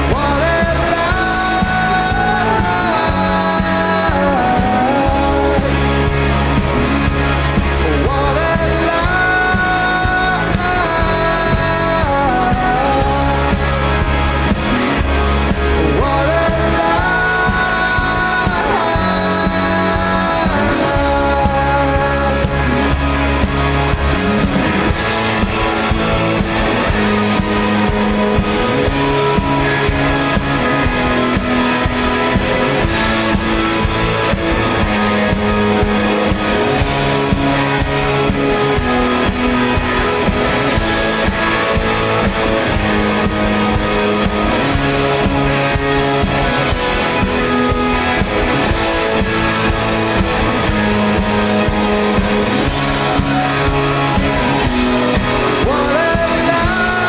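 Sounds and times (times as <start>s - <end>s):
bass: 0.0s - 57.0s
drum kit: 0.0s - 57.0s
electric guitars: 0.0s - 57.0s.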